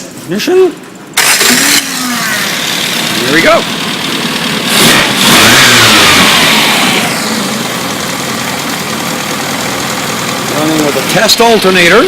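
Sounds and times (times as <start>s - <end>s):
car engine starting and idling: 0.9s - 12.0s.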